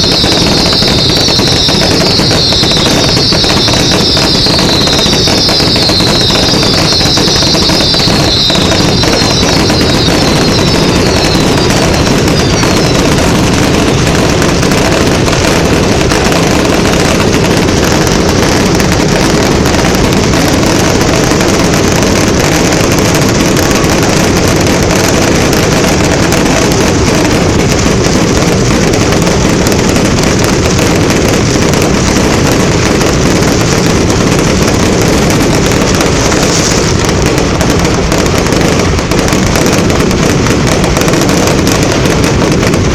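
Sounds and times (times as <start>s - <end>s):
fireworks bangs and crackle: 0.0s - 42.9s.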